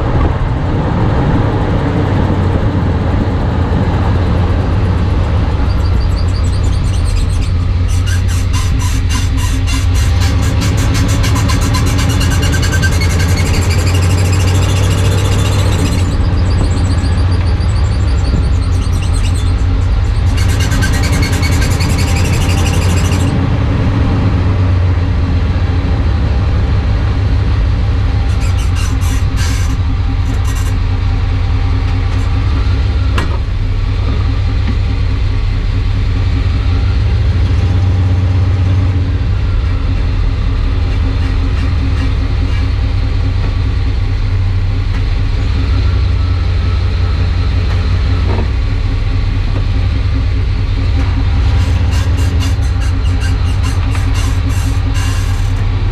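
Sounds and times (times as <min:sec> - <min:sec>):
vehicle drivetrain running: 0:00.0 - 0:55.9.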